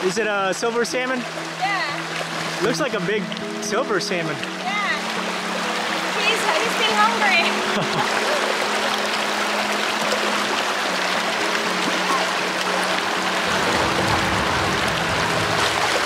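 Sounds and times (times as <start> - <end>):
music of held low notes: 0.0 - 16.0
river rapids rushing over stones: 0.0 - 16.0.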